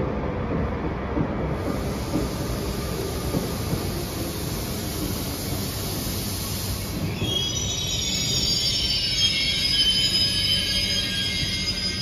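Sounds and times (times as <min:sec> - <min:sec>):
train wheels rumbling: 0:00.0 - 0:12.0
high hiss: 0:01.6 - 0:11.6.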